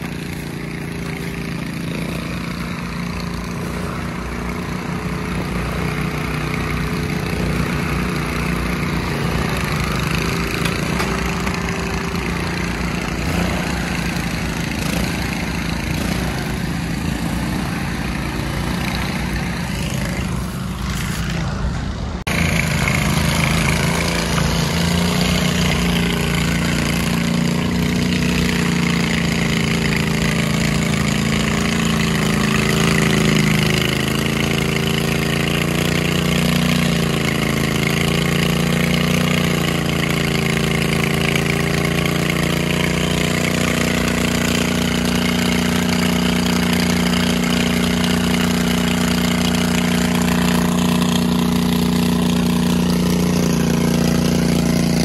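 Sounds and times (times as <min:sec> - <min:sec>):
riding lawn mower engine: 0:00.0 - 0:55.0.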